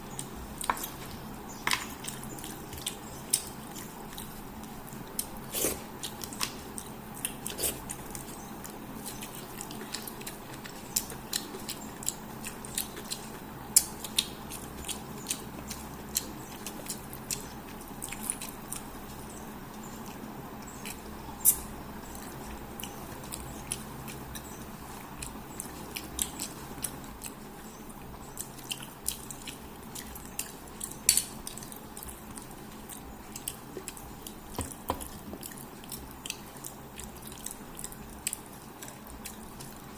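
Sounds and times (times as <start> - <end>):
wet chewing and lip smacking: 1.9 - 39.9.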